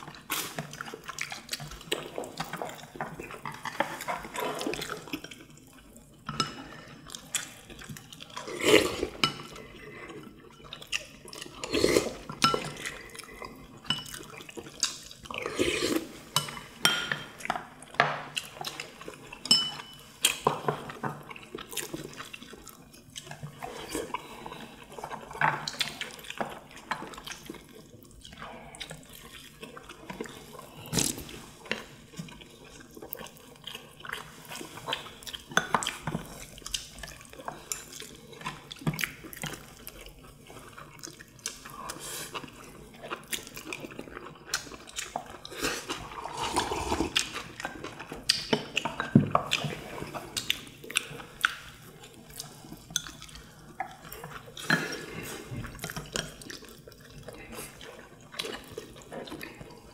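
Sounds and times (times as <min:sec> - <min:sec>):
wet chewing and smacking: 0:00.0 - 0:19.4, 0:20.1 - 0:59.9.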